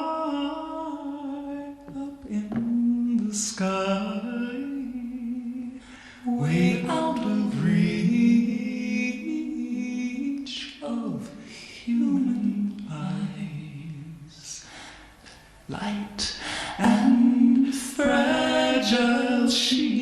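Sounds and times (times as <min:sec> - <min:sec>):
person singing gentle ballad: 0:00.0 - 0:20.0.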